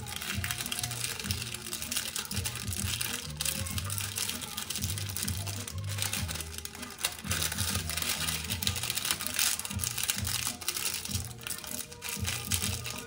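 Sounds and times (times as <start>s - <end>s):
background music with bass line: 0.0s - 13.0s
crinkling rustling: 0.0s - 13.0s.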